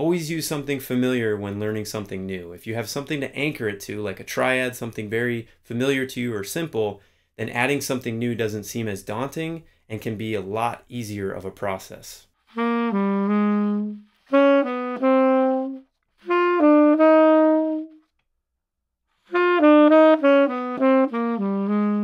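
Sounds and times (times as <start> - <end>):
tenor saxophone jazz phrases: 0.0 - 18.1, 19.2 - 22.0.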